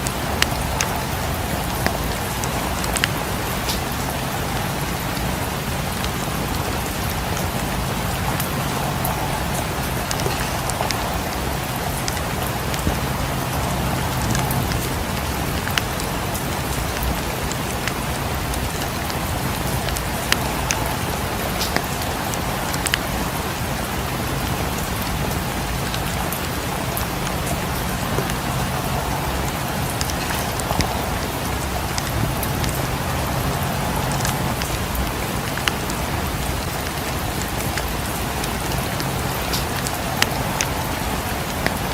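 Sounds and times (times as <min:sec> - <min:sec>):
steady rain: 0:00.0 - 0:41.9
wood fire crackling: 0:00.0 - 0:41.9.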